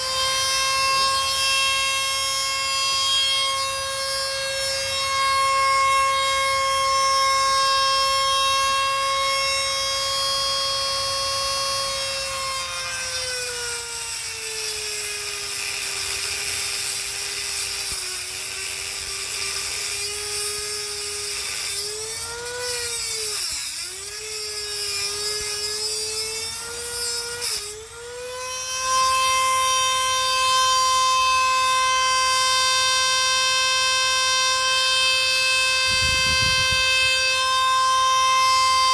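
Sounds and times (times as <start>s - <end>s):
power tool motor whining: 0.0s - 38.9s.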